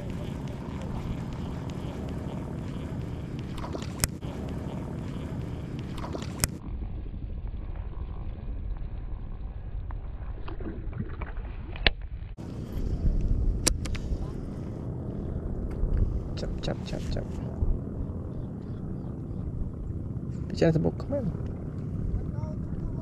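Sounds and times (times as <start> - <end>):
small boat engine rumble: 0.0 - 23.0.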